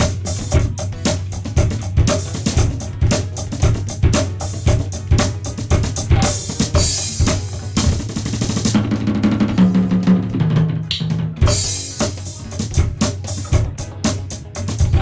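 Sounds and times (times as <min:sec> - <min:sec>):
electronic drum beat: 0:00.0 - 0:15.0.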